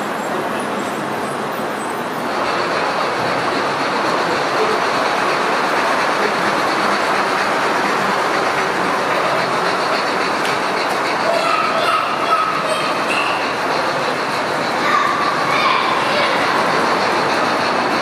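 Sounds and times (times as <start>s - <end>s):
model train wheels clattering: 2.2s - 18.0s.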